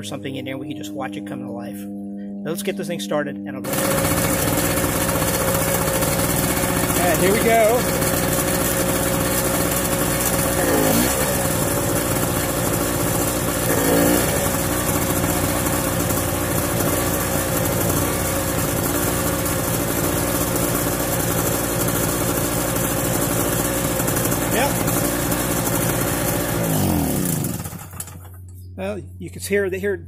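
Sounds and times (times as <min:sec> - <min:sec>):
generator engine running: 0:03.6 - 0:30.0.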